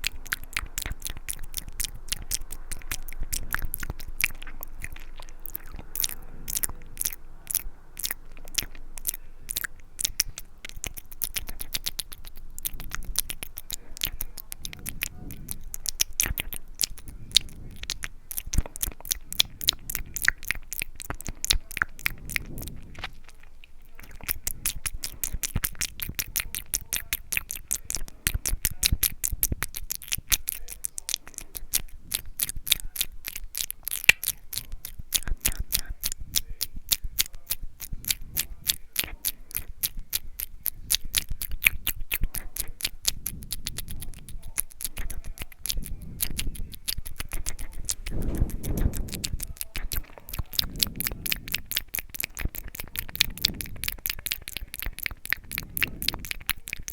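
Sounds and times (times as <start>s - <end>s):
wet lip and tongue clicks: 0.0s - 56.9s.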